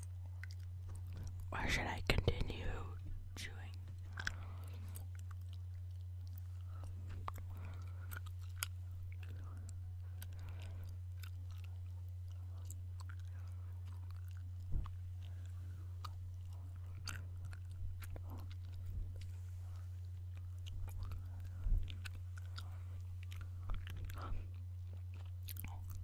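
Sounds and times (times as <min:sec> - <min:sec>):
gum chewing: 0:00.0 - 0:26.0
steady low hum: 0:00.0 - 0:26.0.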